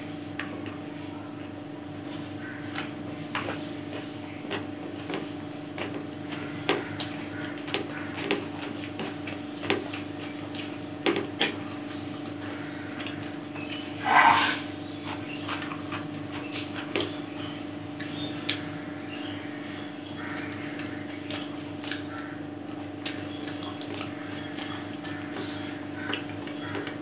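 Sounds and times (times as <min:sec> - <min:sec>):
steady low hum: 0:00.0 - 0:27.0
chewing and fingers on plate: 0:02.0 - 0:18.7, 0:20.3 - 0:22.1, 0:23.0 - 0:27.0.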